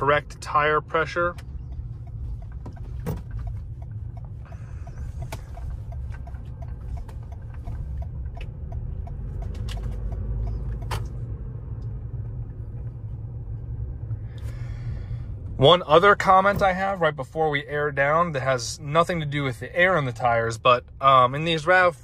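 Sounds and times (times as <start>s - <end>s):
car interior rumble: 0.0s - 22.0s
turn signal ticking: 0.0s - 22.0s.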